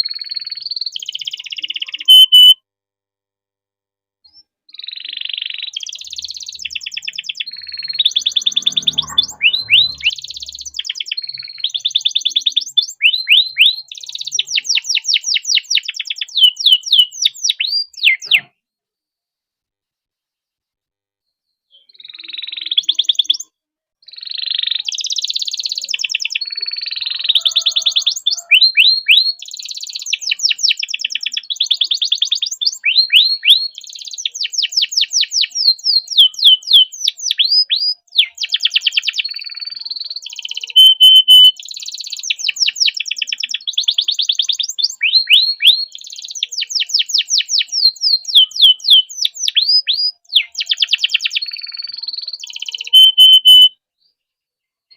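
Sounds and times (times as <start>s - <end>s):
canary singing trills: 0.0s - 2.6s, 4.4s - 18.5s, 21.7s - 23.5s, 24.1s - 53.8s.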